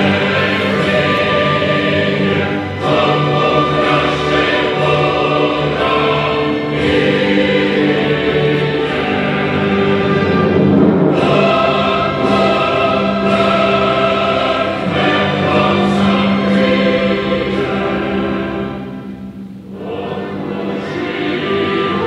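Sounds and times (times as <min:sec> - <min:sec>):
choir singing held chords: 0:00.0 - 0:22.0
orchestral accompaniment: 0:00.0 - 0:22.0.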